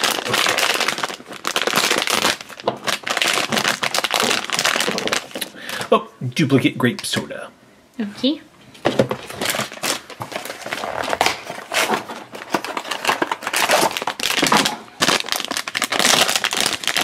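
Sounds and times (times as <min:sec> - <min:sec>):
foil bag crinkling and tearing: 0:00.0 - 0:05.8, 0:09.2 - 0:17.0.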